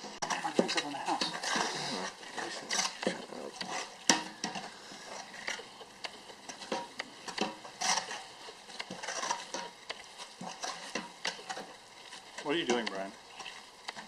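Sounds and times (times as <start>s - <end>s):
light sizzle of bubbling roux: 0.0s - 14.0s
spoon scraping and knocking pot: 0.0s - 14.0s.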